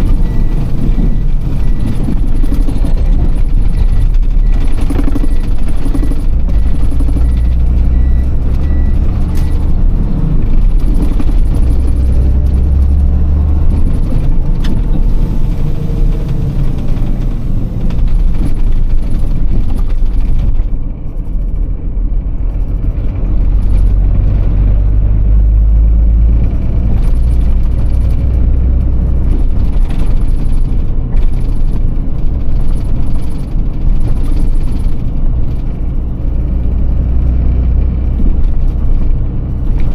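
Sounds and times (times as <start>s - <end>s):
diesel truck engine rumble: 0.0s - 39.9s.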